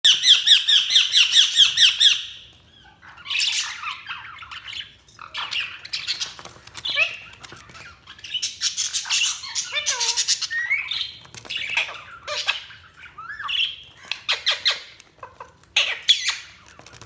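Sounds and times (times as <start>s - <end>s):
budgerigars chirping: 0.0s - 17.0s
budgerigars warbling chatter: 0.1s - 16.8s.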